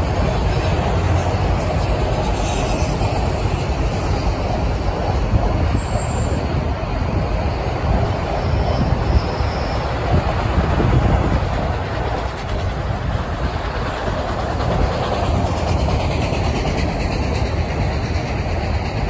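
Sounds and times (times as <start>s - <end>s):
freight cars rolling on rails: 0.0s - 19.0s.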